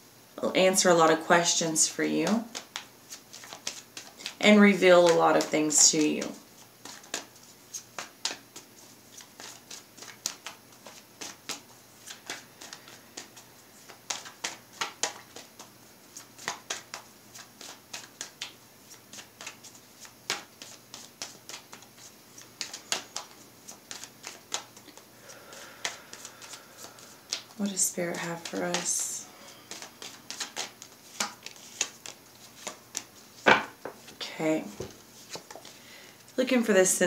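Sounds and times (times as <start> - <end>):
cards being shuffled: 2.5 - 35.8.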